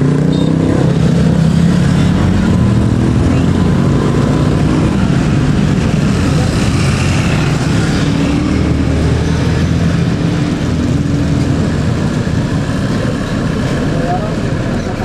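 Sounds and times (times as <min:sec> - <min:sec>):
motorcycle engines passing: 0:00.0 - 0:15.0
truck engine approaching: 0:00.0 - 0:15.0.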